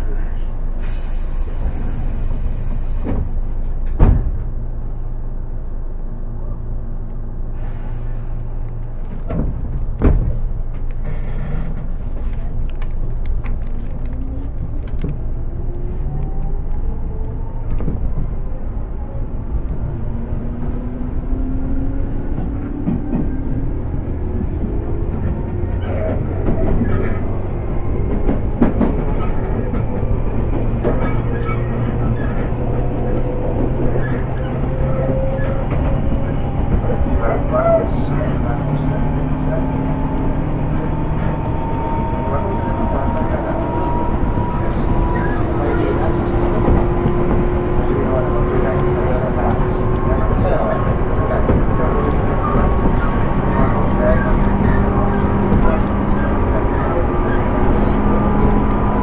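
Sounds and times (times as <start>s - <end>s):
train rumble and hum: 0.0s - 59.0s.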